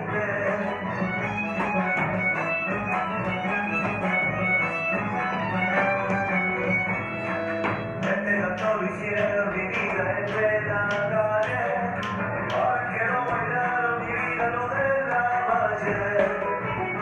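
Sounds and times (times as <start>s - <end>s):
plucked guitar folk music: 0.0s - 17.0s.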